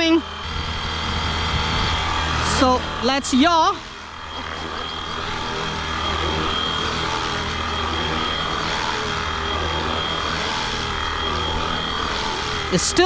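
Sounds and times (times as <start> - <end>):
model helicopter hovering: 0.0 - 13.0.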